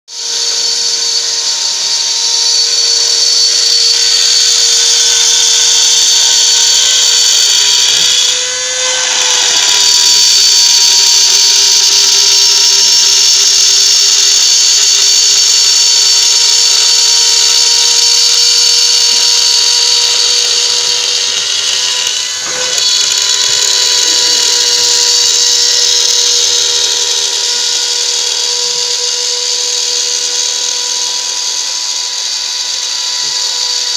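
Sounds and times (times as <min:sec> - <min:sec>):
cutting hiss: 0:00.1 - 0:33.9
router spindle whine: 0:00.1 - 0:33.9.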